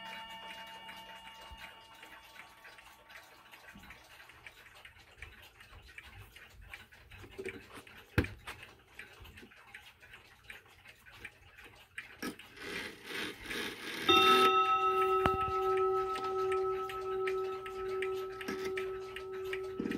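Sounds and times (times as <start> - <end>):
mechanical clocks ticking: 0.0 - 19.9
sharp click of clock: 0.0 - 19.9.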